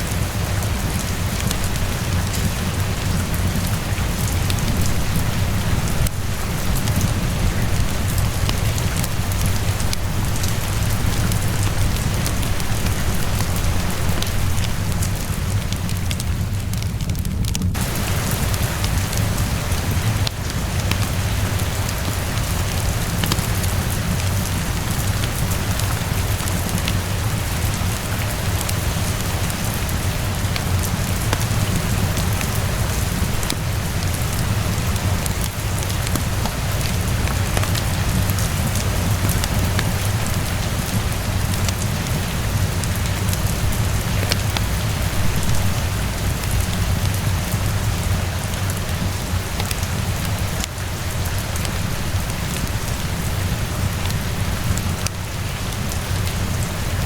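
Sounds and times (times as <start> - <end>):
steady rainfall: 0.0 - 57.0
fireplace crackles: 0.2 - 47.3.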